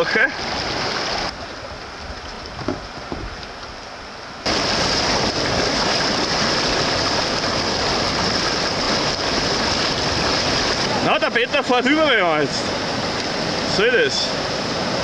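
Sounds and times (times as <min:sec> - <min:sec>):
river whitewater roaring: 0:00.0 - 0:15.0.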